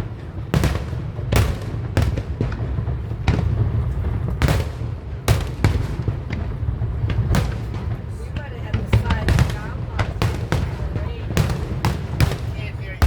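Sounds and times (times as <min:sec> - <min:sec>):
fireworks bangs: 0:00.0 - 0:13.0
low rumble of shells: 0:00.0 - 0:13.0.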